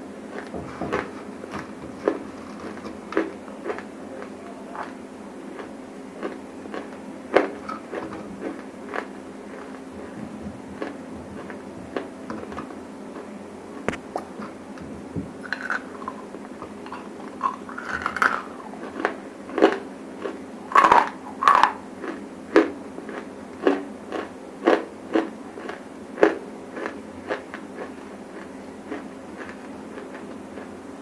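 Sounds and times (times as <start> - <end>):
dry crunching while chewing: 0.2 - 30.8.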